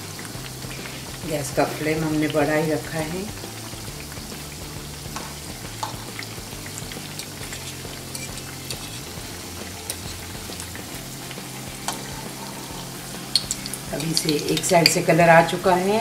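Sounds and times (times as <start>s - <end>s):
deep-frying sizzle: 0.0s - 16.0s
oil popping and crackling: 0.0s - 16.0s.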